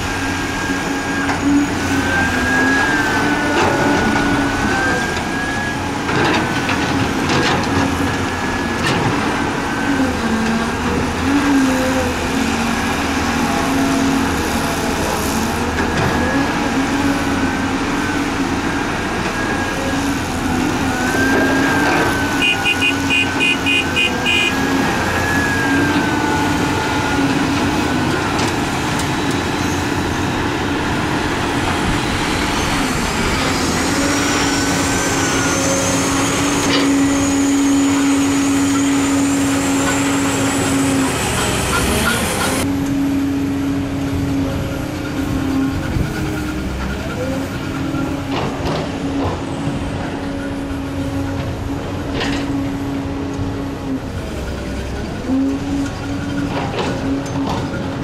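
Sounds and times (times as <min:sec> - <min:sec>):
dump truck engine pulling away: 0:00.0 - 0:58.0
excavator diesel engine running: 0:00.0 - 0:58.0.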